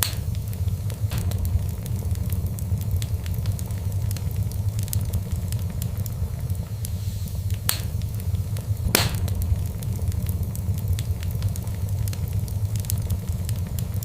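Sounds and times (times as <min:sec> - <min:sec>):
loud fire pops: 0:00.0 - 0:14.0
wood fire crackling: 0:00.0 - 0:14.0.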